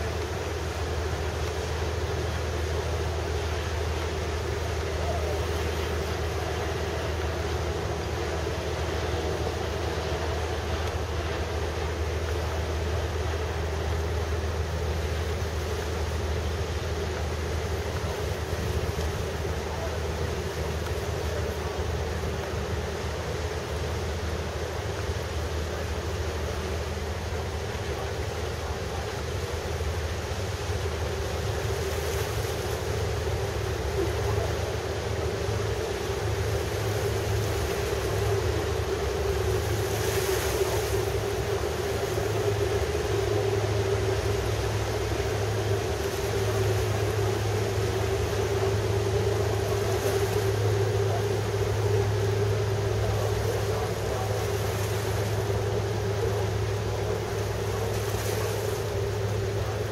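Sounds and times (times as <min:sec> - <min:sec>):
low hum of boat engines: 0:00.0 - 0:59.9
water: 0:00.0 - 0:59.9.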